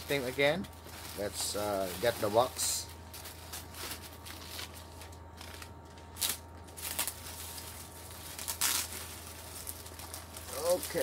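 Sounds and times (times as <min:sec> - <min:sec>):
plastic packaging rustling: 0:00.0 - 0:11.0
steady low hum: 0:00.0 - 0:11.0.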